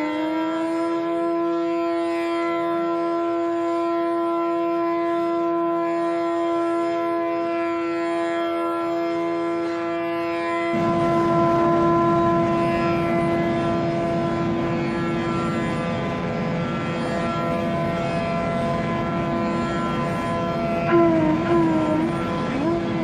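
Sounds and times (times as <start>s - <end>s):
bamboo flute long note: 0.0s - 23.0s.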